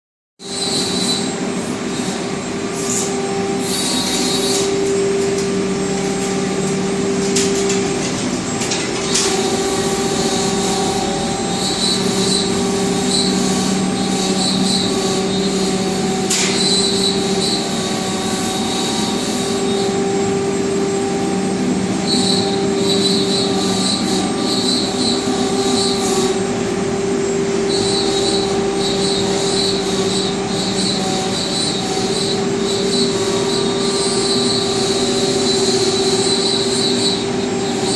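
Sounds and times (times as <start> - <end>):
cnc router machine whine: 0.4 - 37.9.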